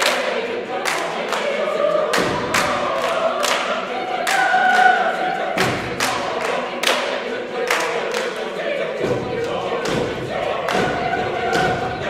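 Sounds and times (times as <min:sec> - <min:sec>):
hand claps: 0:00.0 - 0:04.9, 0:05.6 - 0:08.4, 0:09.0 - 0:11.8
mixed choir singing chords: 0:00.0 - 0:12.0.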